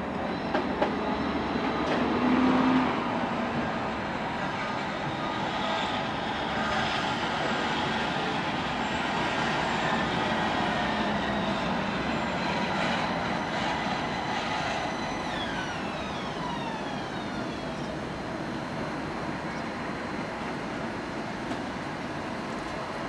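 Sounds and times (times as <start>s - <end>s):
tram braking to a stop: 0.0s - 23.0s.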